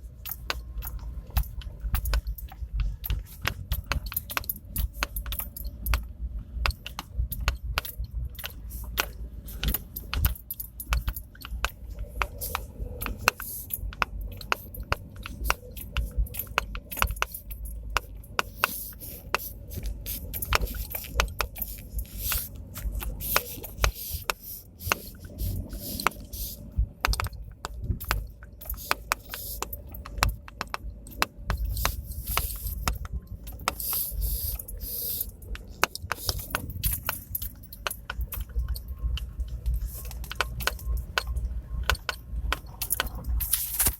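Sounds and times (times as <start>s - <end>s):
car knocking and rattling: 0.0s - 43.9s
low engine rumble: 0.0s - 43.9s.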